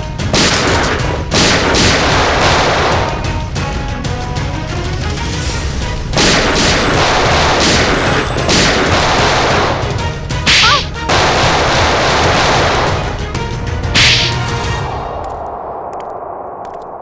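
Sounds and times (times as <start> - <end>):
rapid gunfire: 0.0 - 14.8.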